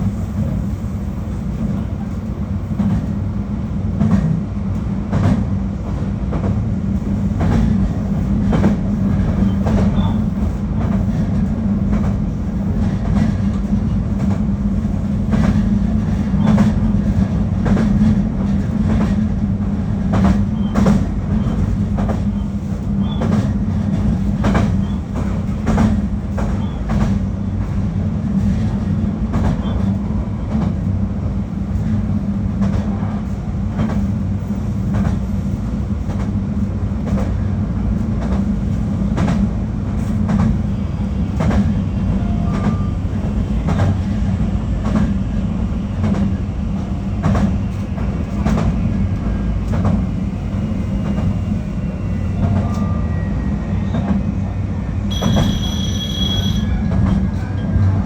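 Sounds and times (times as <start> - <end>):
train running hum: 0.0 - 58.0.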